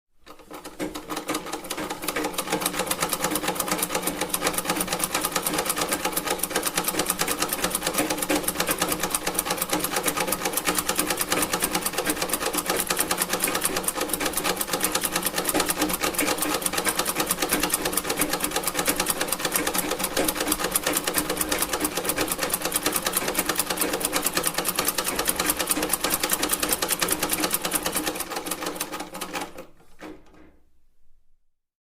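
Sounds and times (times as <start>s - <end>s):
sewing machine running: 0.2s - 30.4s.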